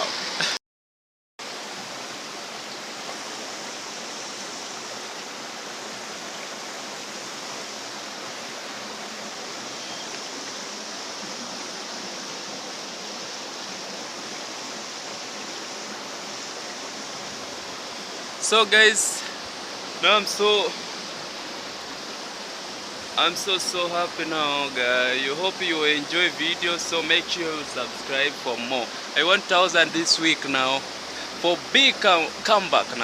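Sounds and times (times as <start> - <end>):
steady rushing hiss: 1.4 - 33.0.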